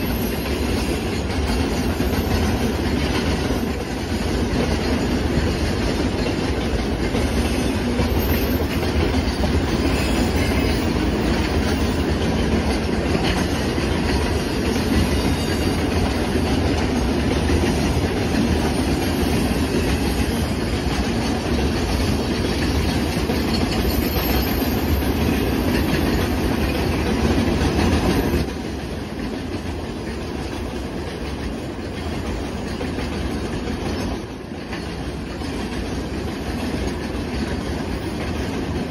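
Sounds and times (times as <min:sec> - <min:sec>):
clickety-clack over rail joints: 0:00.0 - 0:38.9
train wheels rumbling on rails: 0:00.0 - 0:38.9.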